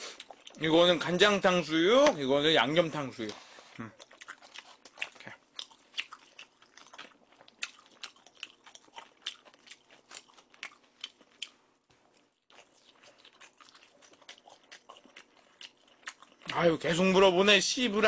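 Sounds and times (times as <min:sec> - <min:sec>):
chewing crunchy fried food: 0:00.0 - 0:01.2, 0:03.2 - 0:17.0.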